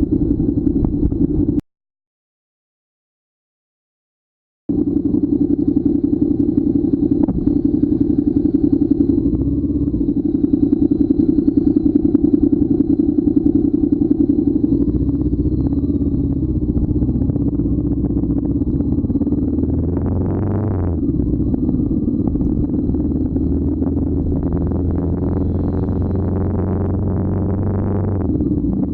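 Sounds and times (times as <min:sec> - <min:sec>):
motorcycle engine running: 0:00.0 - 0:01.6, 0:04.7 - 0:28.9.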